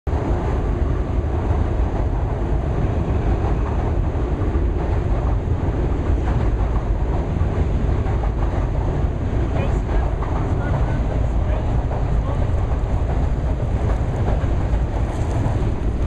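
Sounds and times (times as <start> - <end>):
wind buffeting microphone: 0.1 - 16.0.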